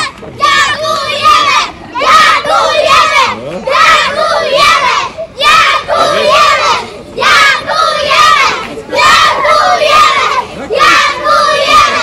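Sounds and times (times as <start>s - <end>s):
children shouting a chant: 0.0s - 12.0s.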